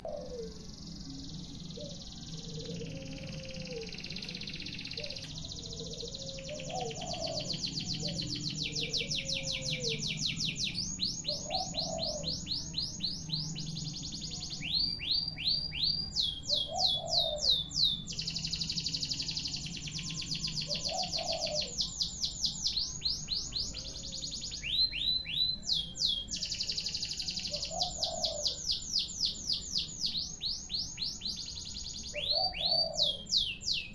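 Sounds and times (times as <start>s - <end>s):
canary singing trills: 0.0s - 33.9s.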